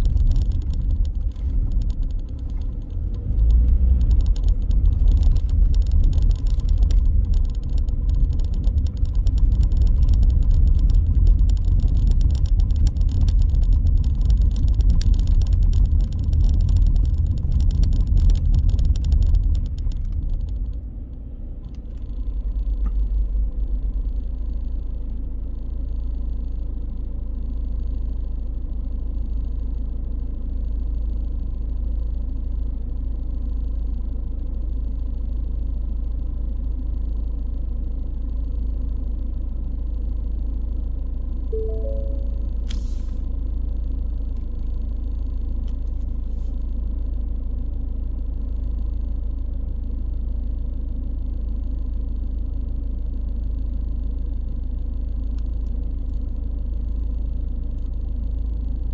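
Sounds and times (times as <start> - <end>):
vehicle low rumble: 0.0 - 58.9.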